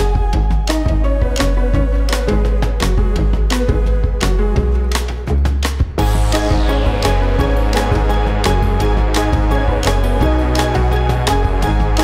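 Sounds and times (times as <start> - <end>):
upbeat music with drums: 0.0 - 12.0.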